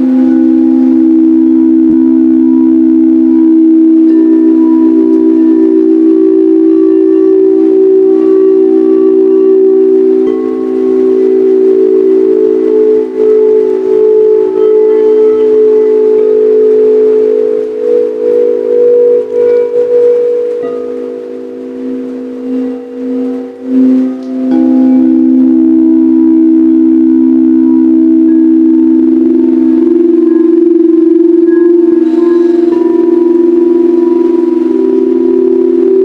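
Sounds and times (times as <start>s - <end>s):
higher singing bowl tone: 0.0s - 36.0s
singing bowls sustained tones: 0.0s - 36.0s.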